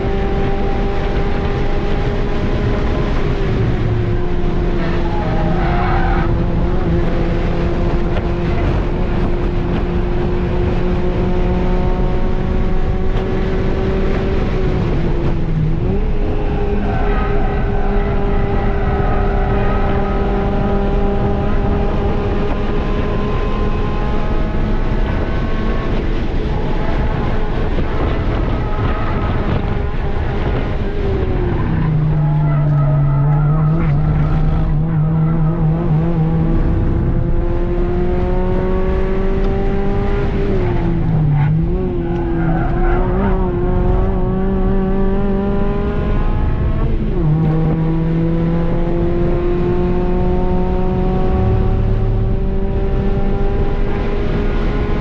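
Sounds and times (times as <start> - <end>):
car engine at full throttle: 0.0 - 55.0
road and tyre noise: 0.0 - 55.0.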